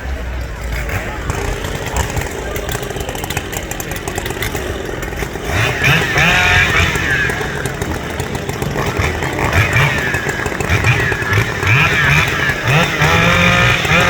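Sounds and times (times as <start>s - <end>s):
racing saw engine running hard: 0.6s - 14.0s.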